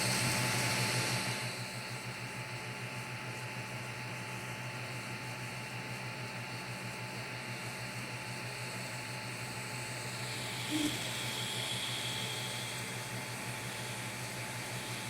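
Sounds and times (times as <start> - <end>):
fan hum: 0.0 - 15.0
high motor whine: 0.0 - 15.0.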